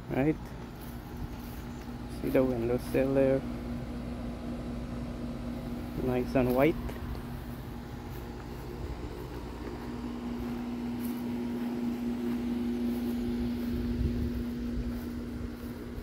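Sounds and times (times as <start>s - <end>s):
air conditioner hum and fan: 0.0s - 16.0s.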